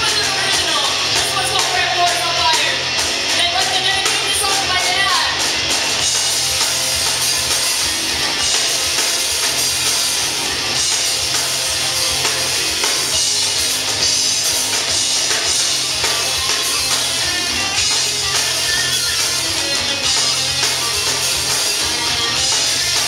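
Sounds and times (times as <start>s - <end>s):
bass guitar: 0.0s - 23.0s
drum kit playing: 0.0s - 23.0s
electric guitar: 0.0s - 23.0s.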